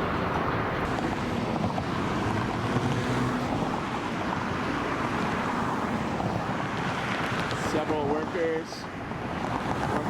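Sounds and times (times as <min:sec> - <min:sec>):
wind on microphone: 0:00.0 - 0:08.2, 0:08.8 - 0:10.0.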